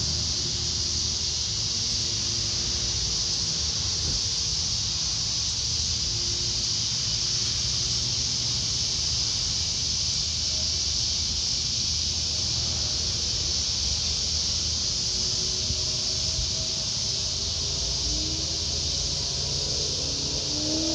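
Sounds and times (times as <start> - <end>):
cicadas buzzing loudly: 0.0 - 20.9.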